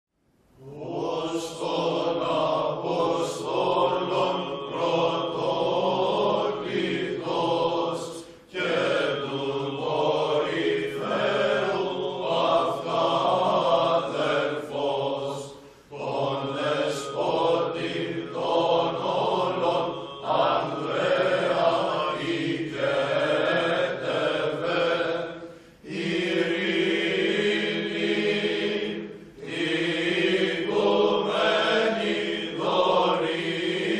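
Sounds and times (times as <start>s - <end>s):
choir chanting: 0.6s - 33.9s.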